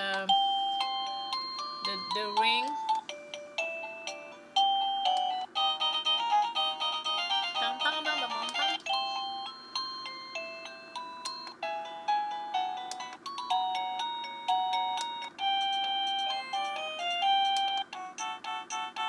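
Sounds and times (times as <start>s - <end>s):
electronic doorbell chime tunes: 0.0s - 19.0s.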